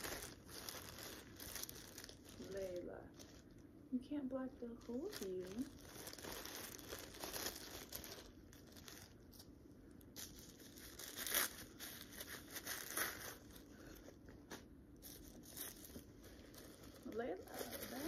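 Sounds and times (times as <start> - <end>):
plastic and paper crinkling: 0.0 - 3.6, 4.6 - 9.5, 10.1 - 18.0.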